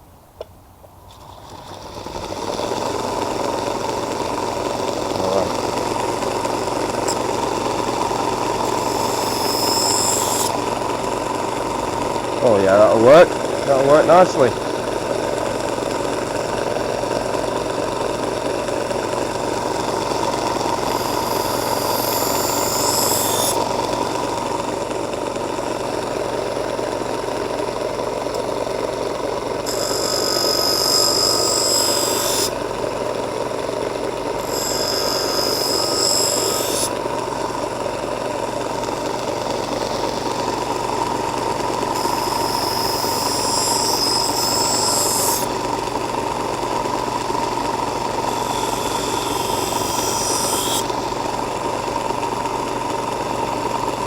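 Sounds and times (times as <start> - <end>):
blade grinding on wheel: 1.3 - 24.9, 29.4 - 51.5
bench grinder running: 1.5 - 54.0.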